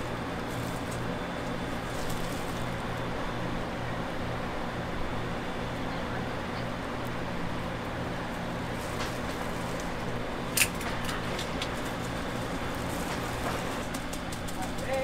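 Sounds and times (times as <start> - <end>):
busy street food stall noise: 0.0 - 15.0.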